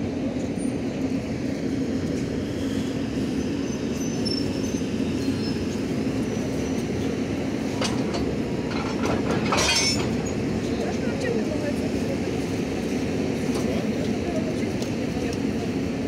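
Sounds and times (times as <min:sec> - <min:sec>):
electric locomotive humming: 0:00.0 - 0:16.0.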